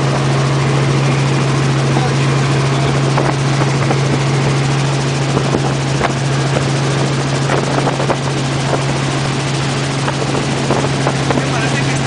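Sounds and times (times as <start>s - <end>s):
helicopter running: 0.0s - 12.0s.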